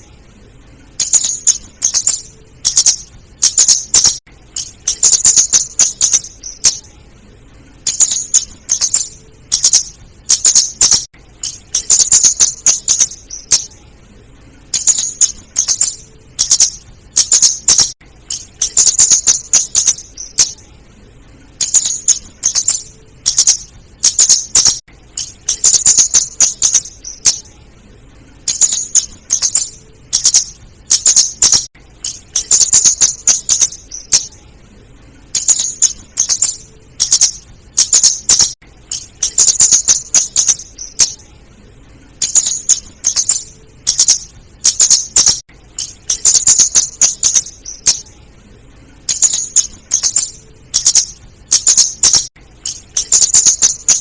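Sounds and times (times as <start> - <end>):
bird calling sharp chips: 1.0 - 6.8, 7.9 - 13.7, 14.8 - 20.6, 21.6 - 27.4, 28.5 - 34.3, 35.4 - 41.2, 42.2 - 48.0, 49.1 - 54.0.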